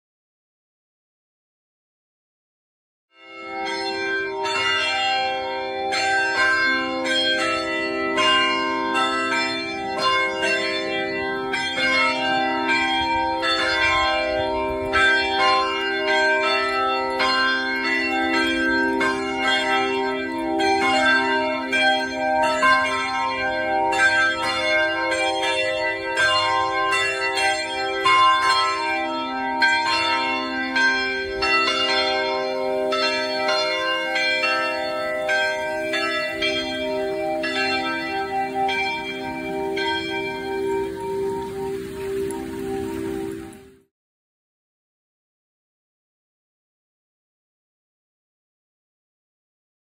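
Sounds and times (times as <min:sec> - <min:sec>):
church bells ringing: 0:03.2 - 0:43.6.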